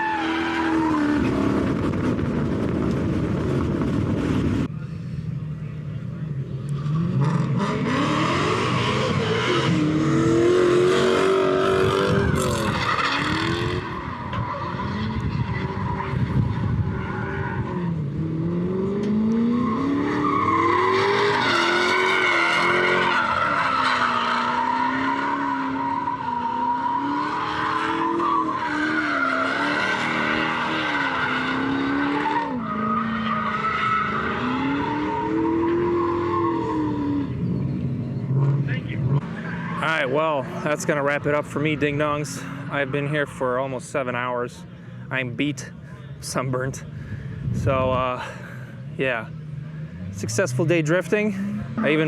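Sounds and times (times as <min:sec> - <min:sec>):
tires squealing: 0:00.0 - 0:02.4, 0:06.6 - 0:44.6, 0:47.6 - 0:52.0
car engine revving: 0:05.6 - 0:44.0, 0:46.4 - 0:52.0.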